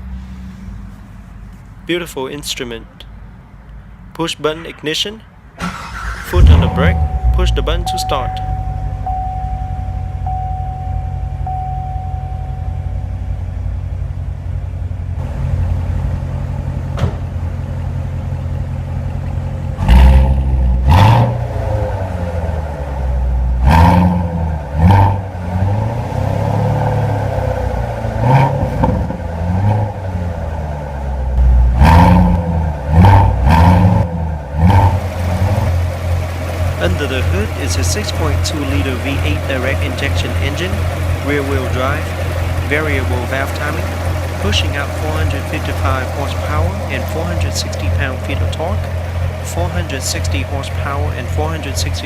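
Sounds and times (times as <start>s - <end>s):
car engine idling and revving: 0.0s - 1.9s, 3.0s - 52.0s.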